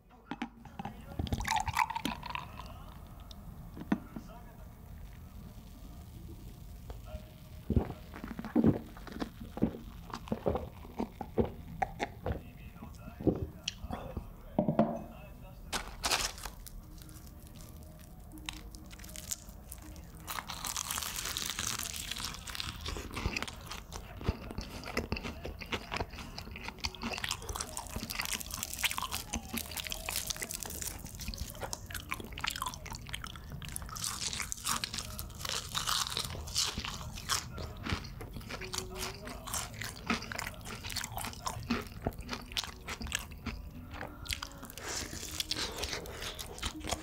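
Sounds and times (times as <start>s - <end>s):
crunching and chewing fried chicken: 0.4s - 13.8s, 15.7s - 47.0s.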